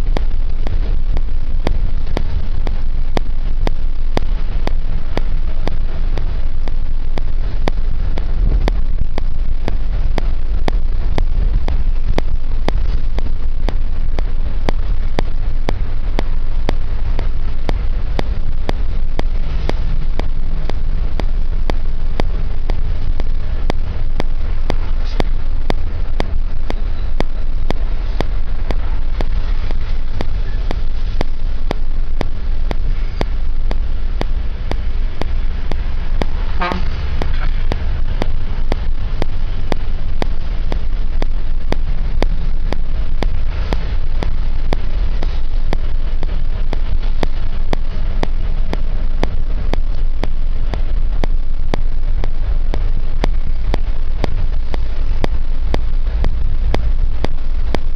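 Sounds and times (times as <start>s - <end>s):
road noise: 0.0s - 57.9s
vehicle engine rumble: 0.0s - 57.9s.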